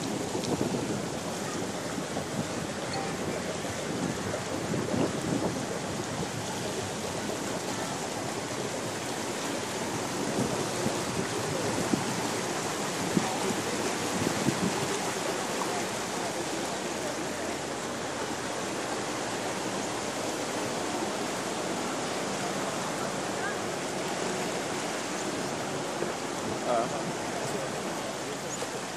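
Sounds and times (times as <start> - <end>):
floodwater rushing and swishing: 0.0 - 28.9
water splashes: 0.0 - 28.9.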